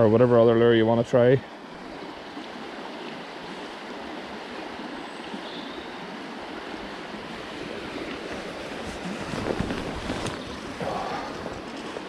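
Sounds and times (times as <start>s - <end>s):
river water rushing: 0.7s - 12.0s.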